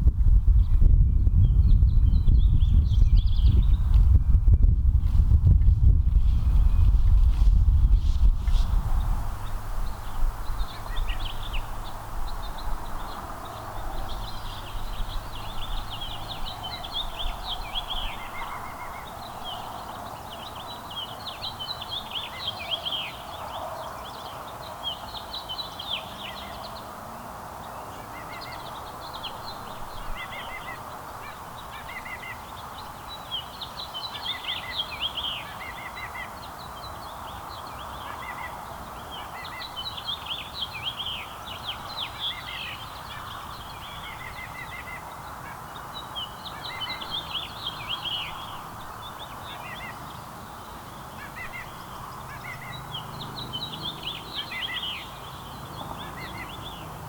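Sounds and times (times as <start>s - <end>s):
songbirds chirping: 0.4s - 57.0s.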